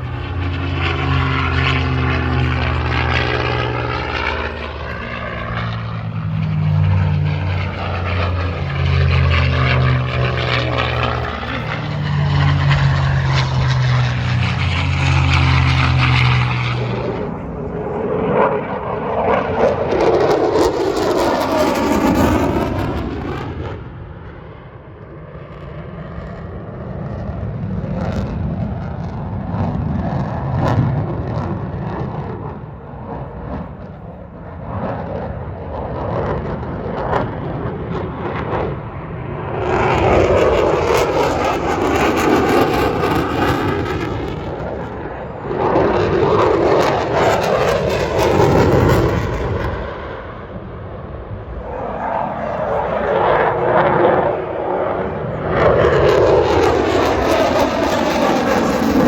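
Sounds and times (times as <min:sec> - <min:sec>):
airplane flying by: 0:00.0 - 0:59.0.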